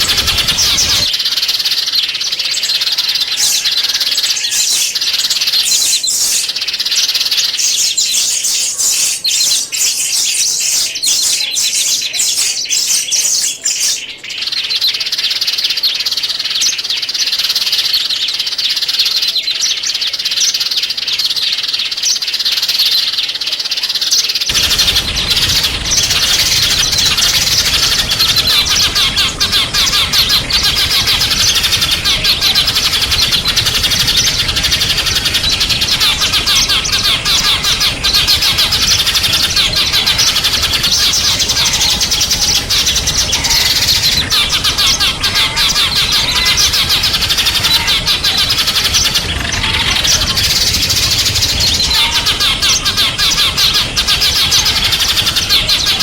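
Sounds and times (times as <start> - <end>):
small songbirds twittering: 0.0 - 56.0.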